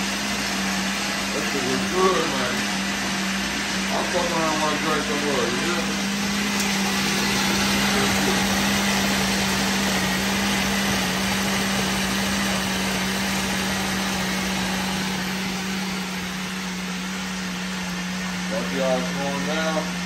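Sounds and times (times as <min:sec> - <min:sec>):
blender running: 0:00.0 - 0:20.0.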